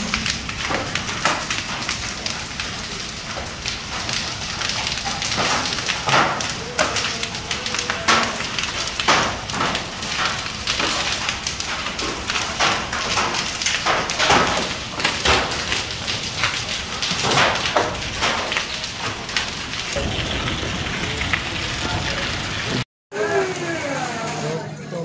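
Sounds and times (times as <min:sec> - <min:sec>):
hail clattering on hard floor: 0:00.0 - 0:22.8.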